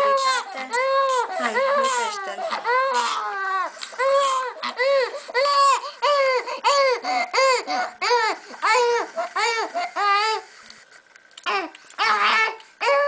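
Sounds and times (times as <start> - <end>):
infant crying: 0.0 - 10.4, 11.5 - 13.0.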